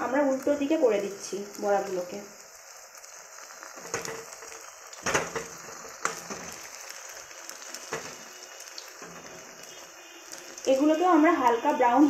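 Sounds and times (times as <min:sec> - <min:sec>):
patties sizzling in hot oil: 0:00.0 - 0:12.0.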